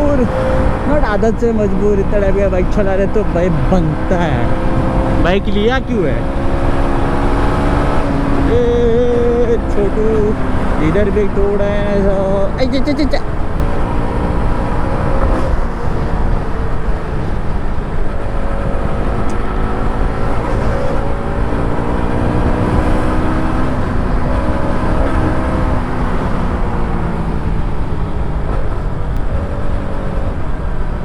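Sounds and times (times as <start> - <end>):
motorcycle engine revving: 0.0 - 31.0
wind and road noise: 0.0 - 31.0.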